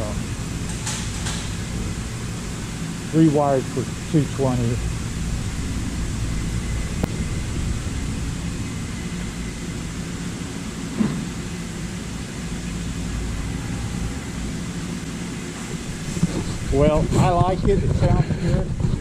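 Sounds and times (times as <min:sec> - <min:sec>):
lathe running hum: 0:00.0 - 0:19.0.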